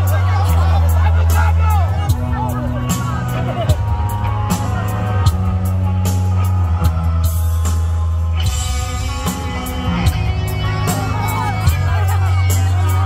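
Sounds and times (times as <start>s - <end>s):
held bass notes: 0.0s - 13.0s
sustained guitar or keyboard tones: 0.0s - 13.0s.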